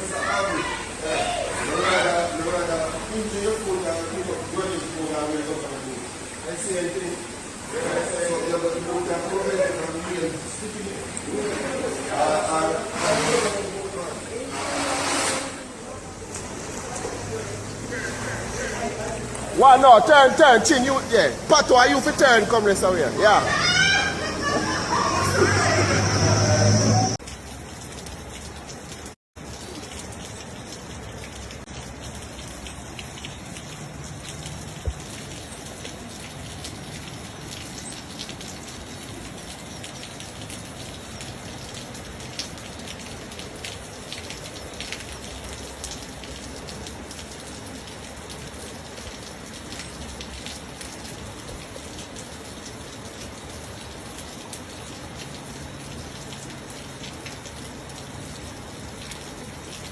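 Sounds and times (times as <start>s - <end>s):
raindrops ticking close by: 0.0s - 14.7s, 15.5s - 59.9s
heavy rain falling: 0.0s - 59.9s.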